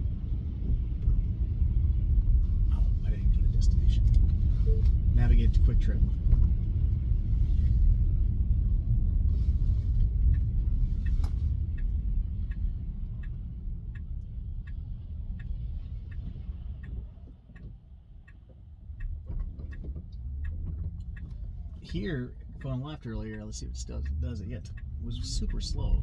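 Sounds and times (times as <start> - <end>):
road and tyre rumble in car: 0.0 - 26.0
turn signal ticking: 0.2 - 26.0.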